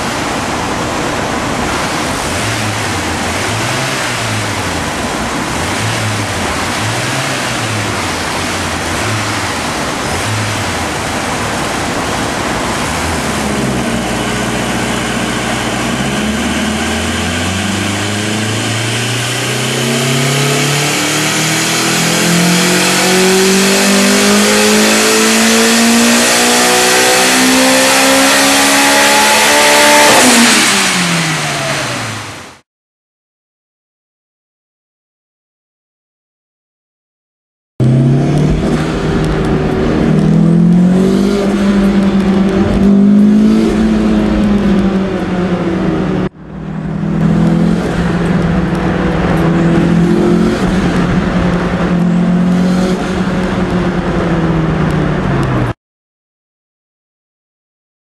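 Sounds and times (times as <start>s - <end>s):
turbocharged engine revving: 0.0s - 32.6s, 37.8s - 55.8s.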